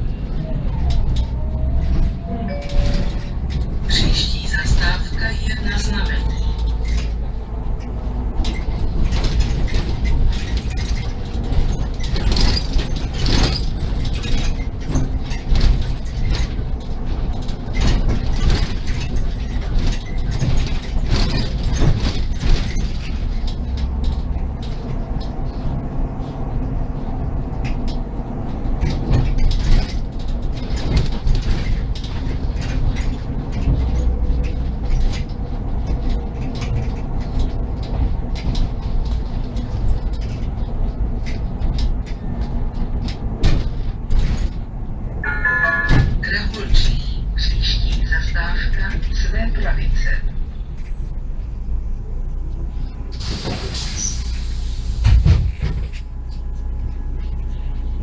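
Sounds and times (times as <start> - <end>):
bus engine and road rumble: 0.0 - 58.0
bus interior rattling and creaking: 0.0 - 58.0.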